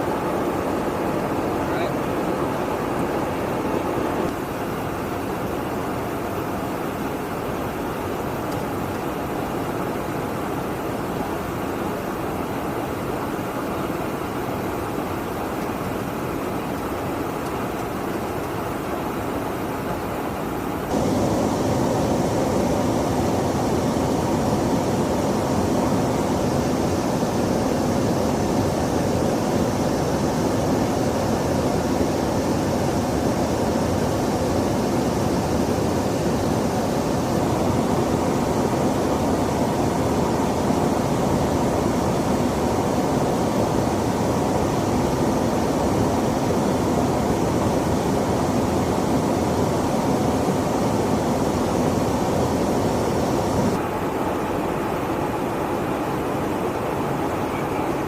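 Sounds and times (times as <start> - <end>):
jet aircraft engine in flight: 0.0 - 58.0.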